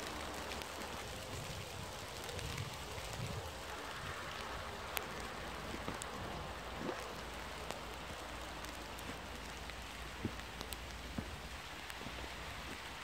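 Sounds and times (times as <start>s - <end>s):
rain falling on leaves: 0.0s - 13.0s.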